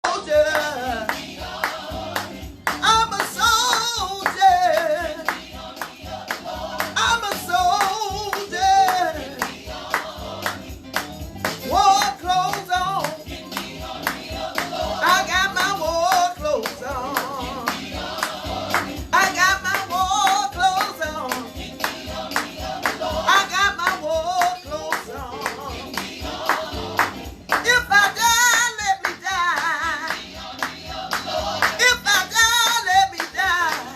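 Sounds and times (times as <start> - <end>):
song with singing voice: 0.0 - 33.9.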